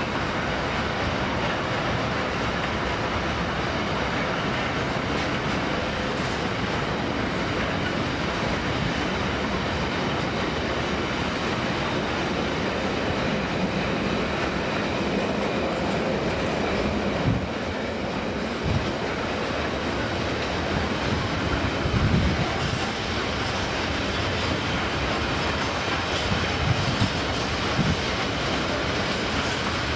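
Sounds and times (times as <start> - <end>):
train rumbling past on rails: 0.0 - 29.9.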